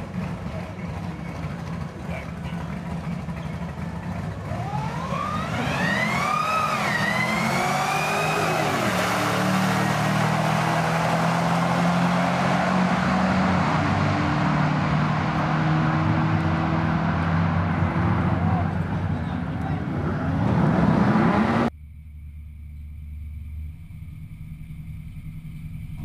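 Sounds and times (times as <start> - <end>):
car engines launching at full throttle: 0.0 - 21.8.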